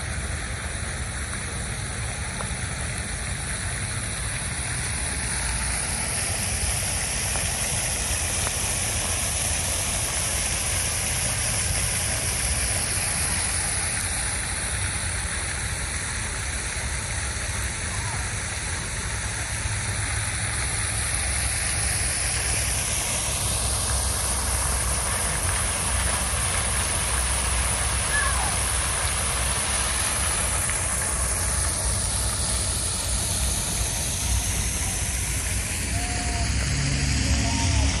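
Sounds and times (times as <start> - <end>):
fountain water splashing: 0.0 - 38.0
passing traffic rumble: 0.0 - 38.0.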